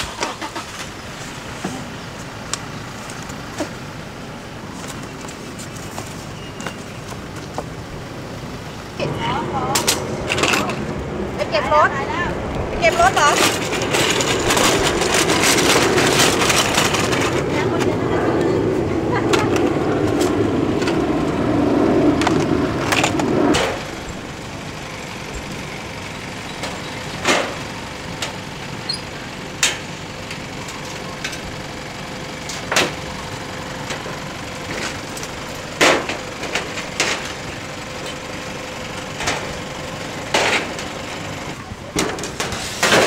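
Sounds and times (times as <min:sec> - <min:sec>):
low rumbling noise: 0:00.0 - 0:43.0.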